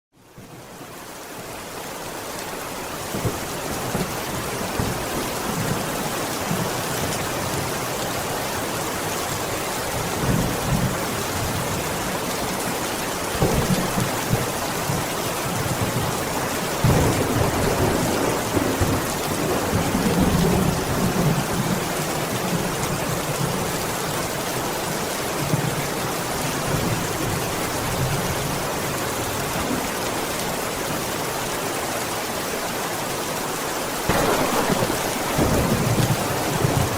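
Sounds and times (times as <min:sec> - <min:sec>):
steady rain: 0:00.2 - 0:36.9.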